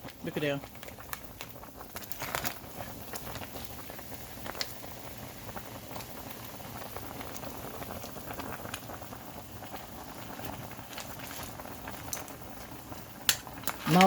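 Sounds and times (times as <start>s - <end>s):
pot boiling with bubbling hiss: 0.0s - 14.0s.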